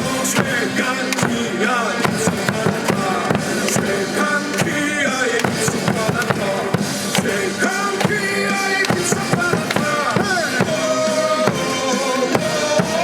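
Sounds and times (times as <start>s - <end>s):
cheer song over loudspeakers: 0.0s - 13.0s
singing voice: 0.0s - 13.0s
steady drum beat: 0.0s - 13.0s.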